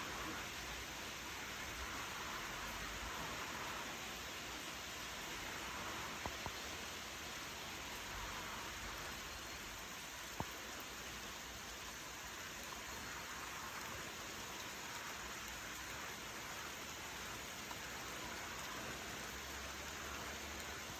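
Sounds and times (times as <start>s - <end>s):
steady rain hissing: 0.0s - 20.9s.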